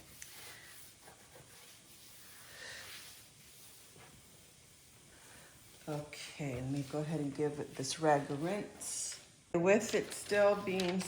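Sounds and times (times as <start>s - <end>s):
cleaning rag rubbing a shelf: 0.0s - 9.2s.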